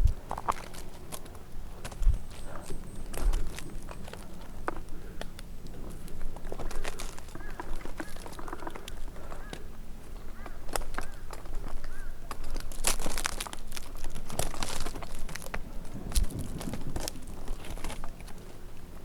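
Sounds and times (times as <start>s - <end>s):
rustling and crackling: 0.0s - 19.0s.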